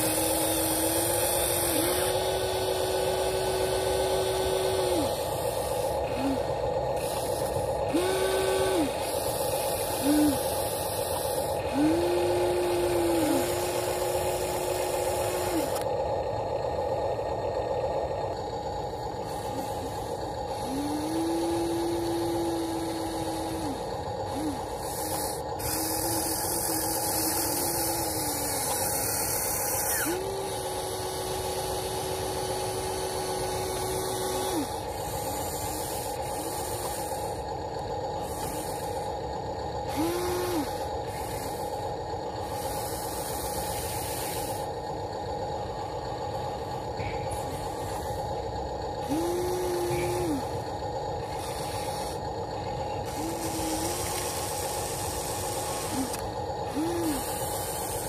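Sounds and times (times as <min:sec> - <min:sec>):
hiss: 0:00.0 - 0:15.9, 0:18.8 - 0:58.0
electric motors whining: 0:00.0 - 0:58.0
steady high hum: 0:00.0 - 0:58.0.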